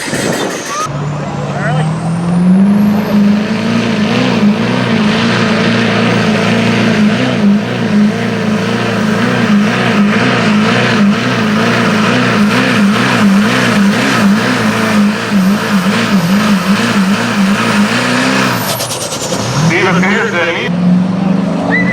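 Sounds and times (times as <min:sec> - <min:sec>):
truck engine at full throttle: 0:00.0 - 0:21.9.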